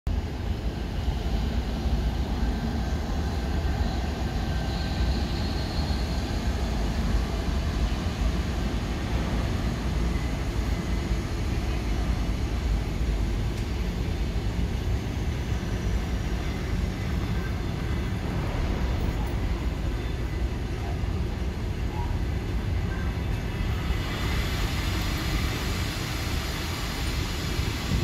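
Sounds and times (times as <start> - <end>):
train wheels rumbling on rails: 0.1 - 28.0.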